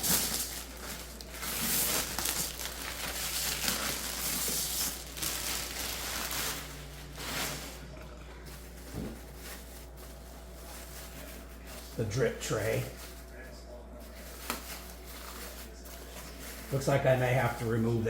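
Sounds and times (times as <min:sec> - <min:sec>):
plastic shrink wrap crinkling: 0:00.0 - 0:18.0.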